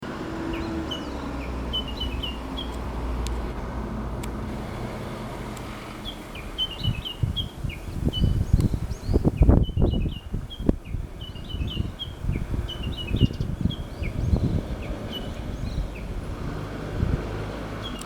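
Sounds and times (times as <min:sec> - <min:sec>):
bush warbler calling: 0:00.1 - 0:03.8, 0:04.8 - 0:18.0.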